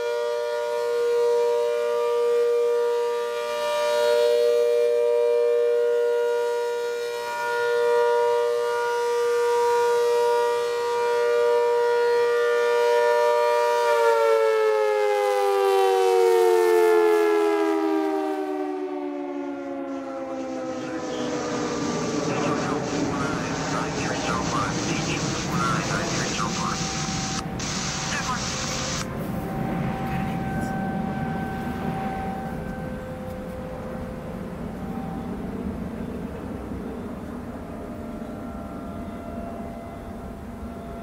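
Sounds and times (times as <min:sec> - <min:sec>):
warning siren steady tone: 0:00.0 - 0:41.0.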